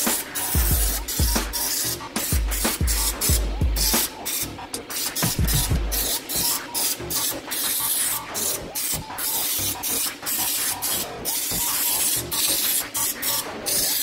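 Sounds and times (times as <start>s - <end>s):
spray gun hissing bursts: 0.0s - 14.0s.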